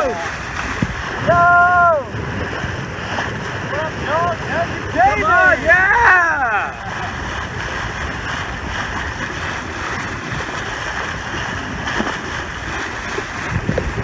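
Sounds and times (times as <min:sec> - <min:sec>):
water rushing past boat: 0:00.0 - 0:14.0
wind buffeting microphone: 0:00.0 - 0:14.0.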